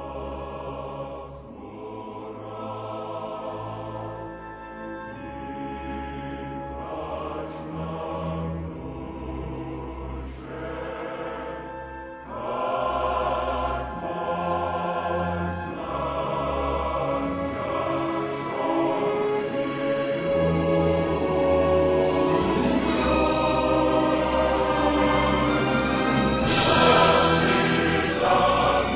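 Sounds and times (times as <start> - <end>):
choir-like singing: 0.0 - 28.9.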